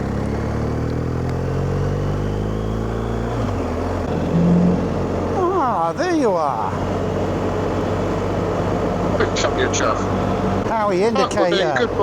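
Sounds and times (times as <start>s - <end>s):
motorcycle engine revs falling: 0.0s - 10.7s.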